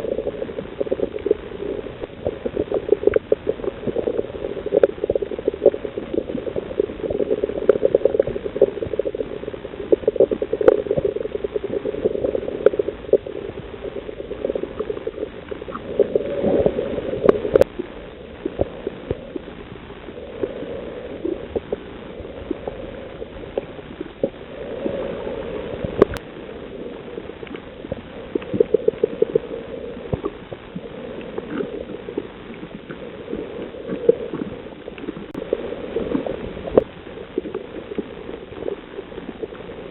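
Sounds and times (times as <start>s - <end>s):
underwater bubbling rumble: 0.0s - 39.9s
crackle of short clicks: 0.3s - 24.4s, 25.8s - 26.3s, 27.3s - 35.5s.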